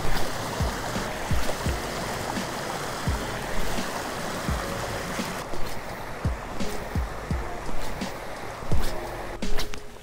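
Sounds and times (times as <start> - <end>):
stream rushing over riffle: 0.0 - 10.0.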